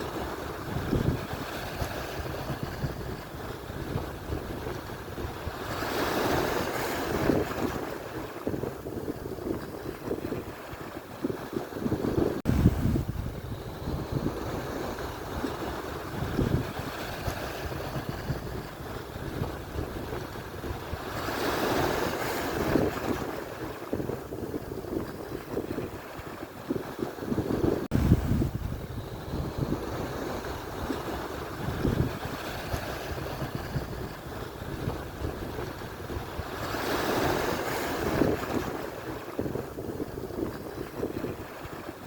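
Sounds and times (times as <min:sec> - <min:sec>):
waves breaking on shore: 0:00.0 - 0:42.0
wind buffeting microphone: 0:00.0 - 0:42.0.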